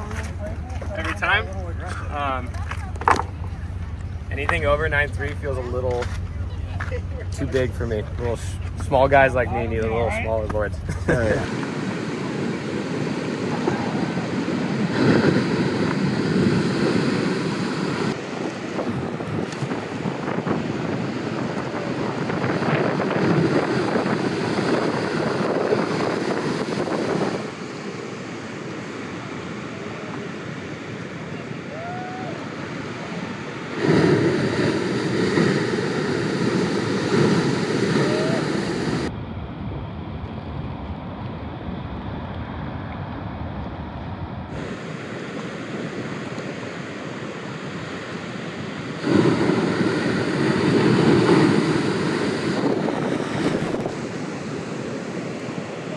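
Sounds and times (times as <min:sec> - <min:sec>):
ocean surf: 0:00.0 - 0:40.0, 0:41.6 - 0:55.9
wind buffeting microphone: 0:00.0 - 0:55.9.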